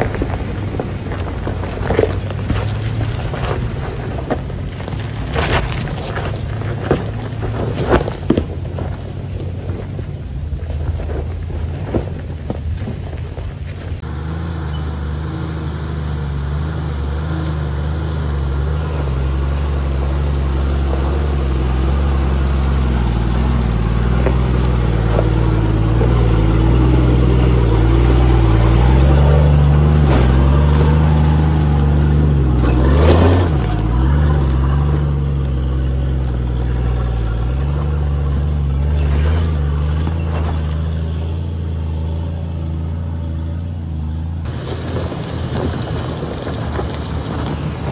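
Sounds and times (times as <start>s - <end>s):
diesel engine climbing: 0.0s - 47.9s.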